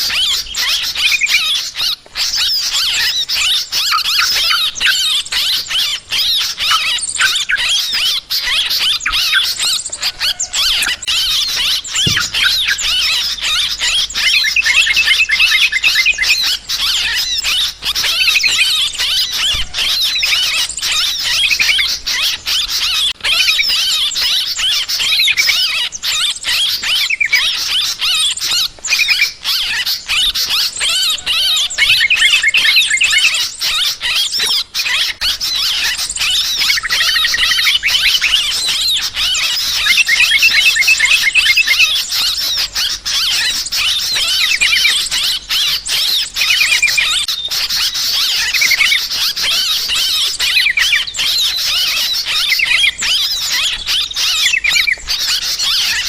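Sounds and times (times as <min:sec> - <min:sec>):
bulbuls chattering: 0:00.0 - 0:56.0.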